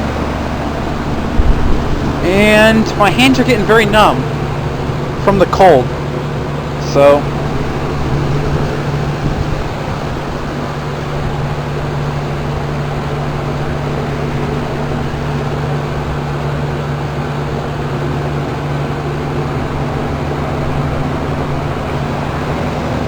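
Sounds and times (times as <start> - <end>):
compressor hum: 0.0 - 23.0
fans whooshing: 0.0 - 23.0.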